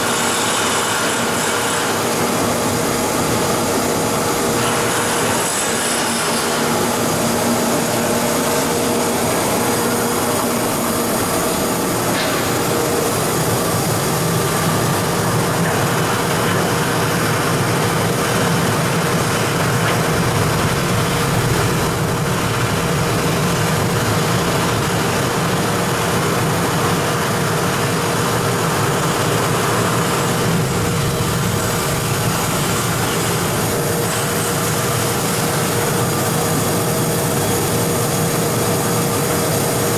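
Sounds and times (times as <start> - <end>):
recycling machine running: 0.0 - 39.9.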